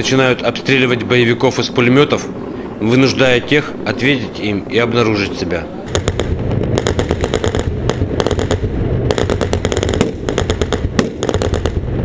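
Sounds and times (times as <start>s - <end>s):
tank engine rumbling: 0.0s - 12.0s.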